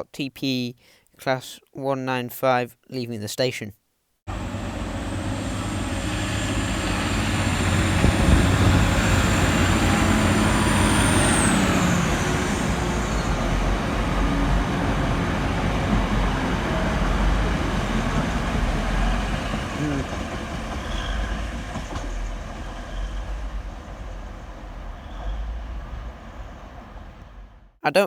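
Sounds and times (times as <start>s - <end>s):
diesel train engine running: 4.3s - 27.8s.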